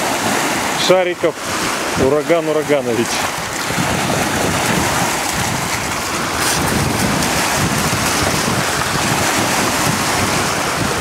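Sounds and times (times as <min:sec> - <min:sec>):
waves breaking in shallows: 0:00.0 - 0:11.0
wind buffeting microphone: 0:00.0 - 0:11.0.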